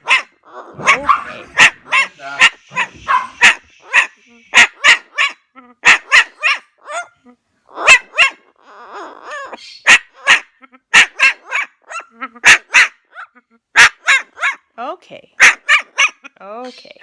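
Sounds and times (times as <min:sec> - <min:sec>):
raspy parrot call: 0:00.0 - 0:14.6
parrot imitating dog barks: 0:00.0 - 0:14.8, 0:15.4 - 0:16.4.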